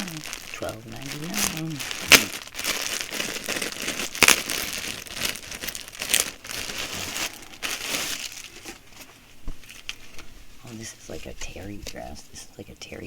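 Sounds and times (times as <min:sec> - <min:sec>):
packaging crinkling and rustling: 0:00.0 - 0:12.2.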